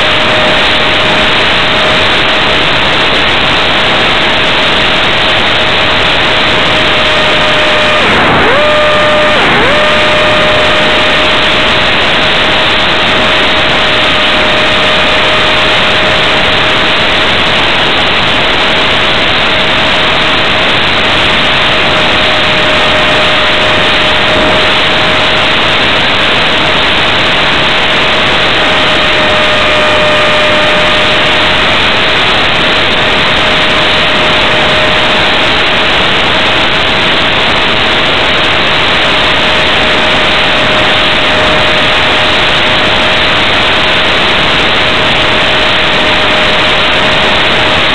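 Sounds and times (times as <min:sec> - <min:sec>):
electric motor and propeller whining: 0:00.0 - 0:47.9
wind rush on microphone: 0:00.0 - 0:47.9.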